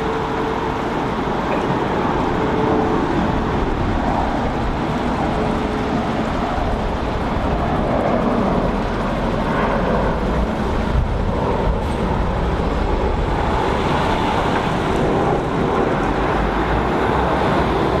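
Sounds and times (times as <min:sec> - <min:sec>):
jet engines roaring on climb: 0:00.0 - 0:18.0.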